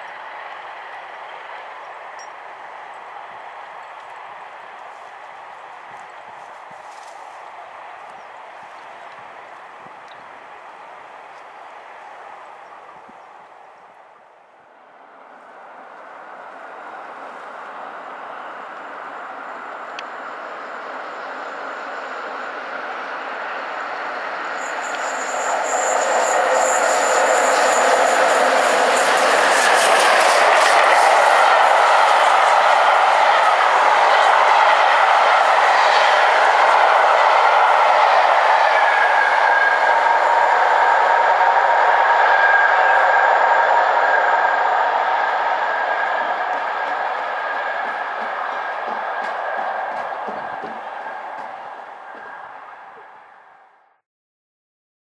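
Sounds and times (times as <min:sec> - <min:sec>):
steam train rushing roar: 0:00.0 - 0:54.0.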